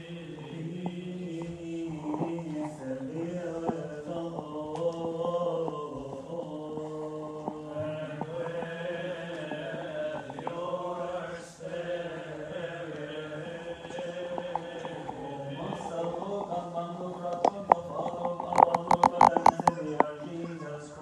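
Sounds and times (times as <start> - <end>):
liturgical chant: 0.0 - 21.0
faint clicks: 0.2 - 20.6.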